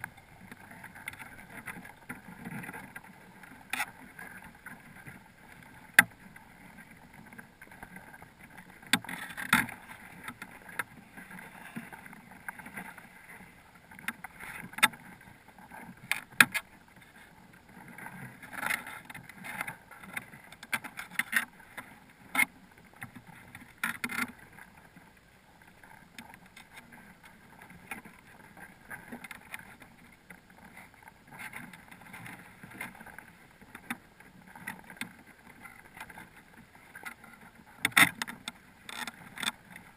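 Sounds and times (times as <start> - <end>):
crabs clicking and knocking: 0.0 - 25.2, 25.8 - 39.9.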